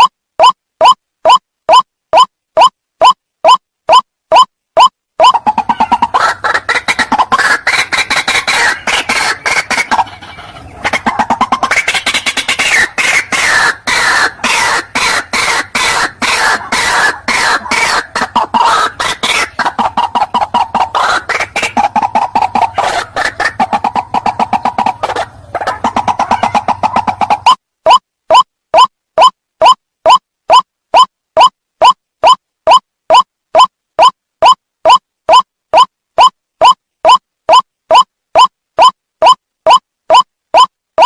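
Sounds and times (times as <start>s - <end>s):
waterhen harsh repeated call: 0.0s - 41.0s.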